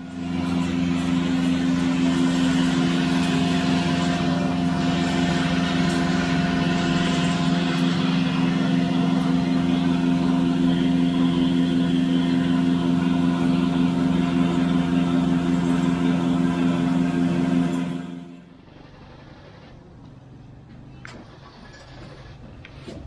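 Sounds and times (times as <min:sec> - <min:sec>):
flour mill machinery humming: 0:00.0 - 0:19.8.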